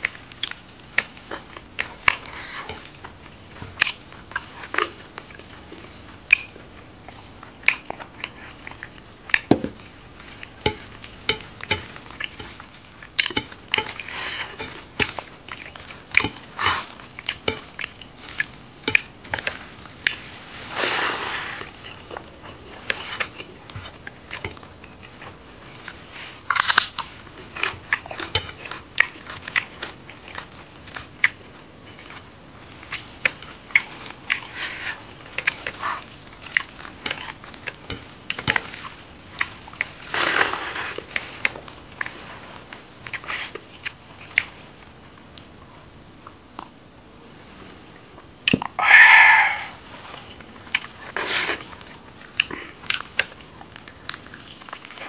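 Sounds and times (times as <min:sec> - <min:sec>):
man chewing and lip smacking: 0:00.0 - 0:20.2, 0:21.6 - 0:44.6, 0:50.4 - 0:55.0.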